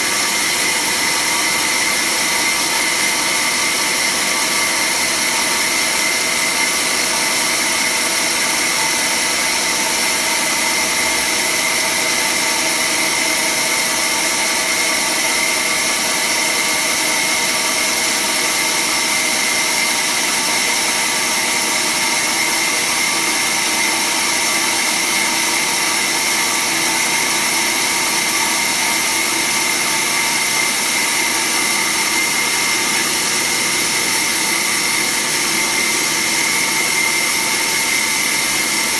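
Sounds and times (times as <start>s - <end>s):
band saw whining: 0.0s - 38.9s.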